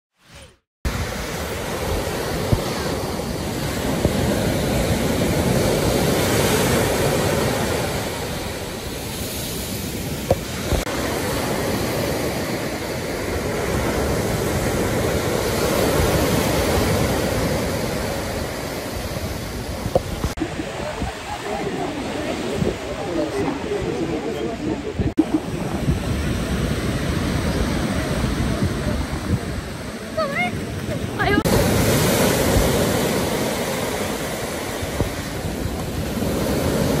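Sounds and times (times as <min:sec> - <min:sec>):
surf breaking on beach: 0:00.2 - 0:37.0
wind on microphone: 0:00.3 - 0:37.0.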